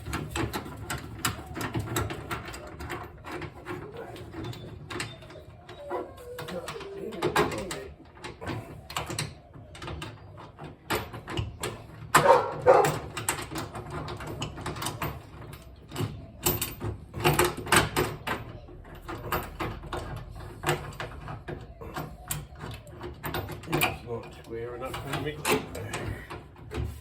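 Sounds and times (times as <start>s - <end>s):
hand tools clicking and clanking: 0.0s - 27.0s.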